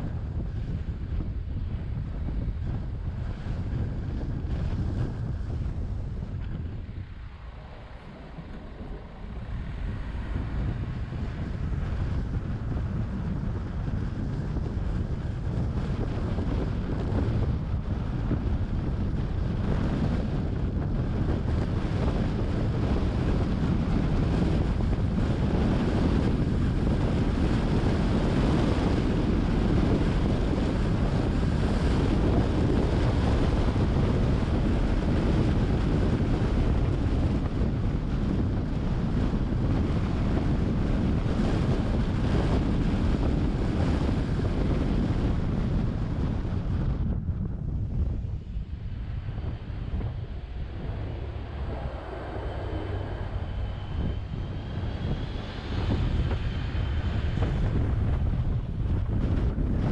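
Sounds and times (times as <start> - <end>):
car road and tyre rumble: 0.0 - 59.9
wind rushing over microphone: 0.0 - 59.9.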